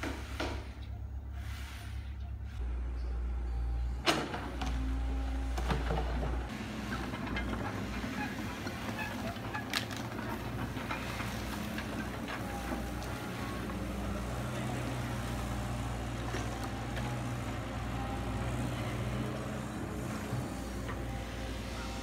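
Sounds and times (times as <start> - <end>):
excavator diesel engine droning: 0.0 - 22.0.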